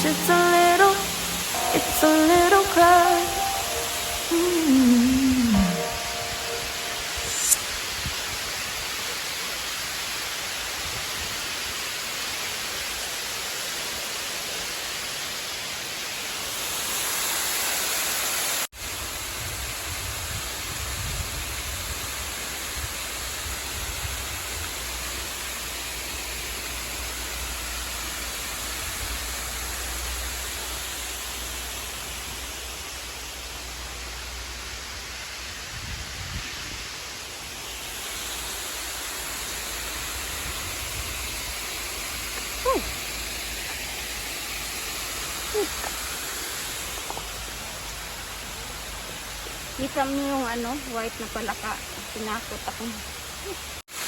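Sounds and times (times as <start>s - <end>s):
flowing water rushing: 0.0s - 35.8s, 36.5s - 54.0s.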